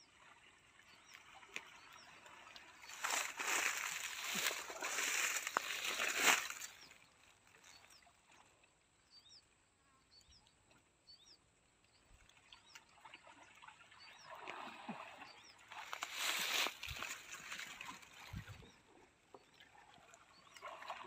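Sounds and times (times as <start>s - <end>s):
water sloshing and splashing: 0.1s - 8.5s, 12.1s - 21.0s.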